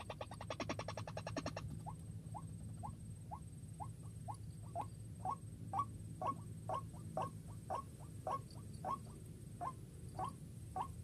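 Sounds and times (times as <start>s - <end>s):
bird rattling call: 0.0s - 3.0s, 4.6s - 11.0s.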